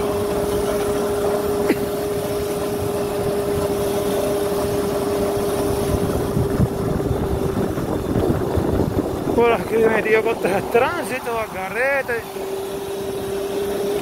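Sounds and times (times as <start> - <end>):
electric motorbike motor whine: 0.0 - 14.0
wind and road noise: 0.0 - 14.0.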